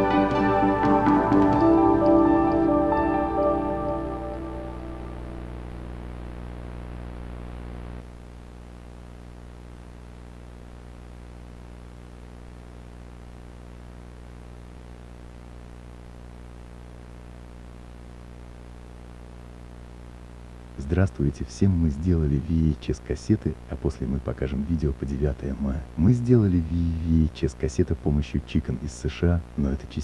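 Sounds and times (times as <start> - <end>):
buzzy electrical hum: 0.0 - 30.0
faint hiss: 2.2 - 30.0.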